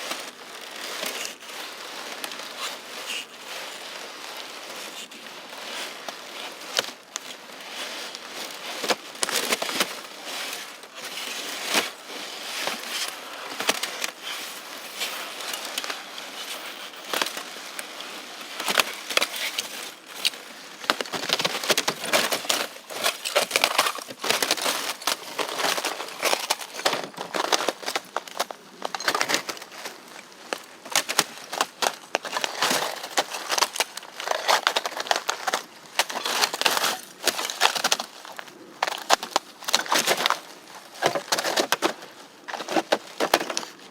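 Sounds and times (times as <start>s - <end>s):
crackling and crinkling: 0.0s - 43.9s.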